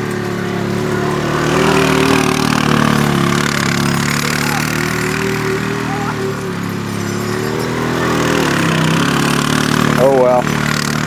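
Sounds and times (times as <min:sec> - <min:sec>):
quad engine running: 0:00.0 - 0:11.0.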